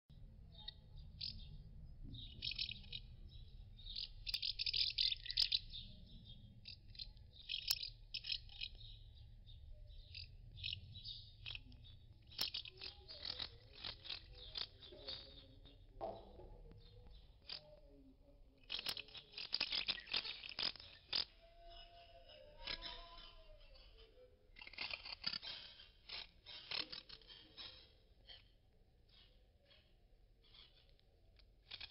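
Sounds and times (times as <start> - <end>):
house martins twittering: 0.4 - 31.9
scratchy bird clicks: 2.2 - 3.1, 3.8 - 5.8, 6.6 - 9.3, 10.0 - 17.9, 18.6 - 31.9.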